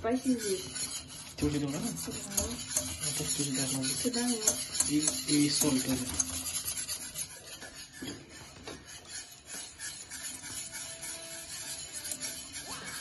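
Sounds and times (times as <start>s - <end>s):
whisk scraping metal saucepan: 0.0s - 13.0s.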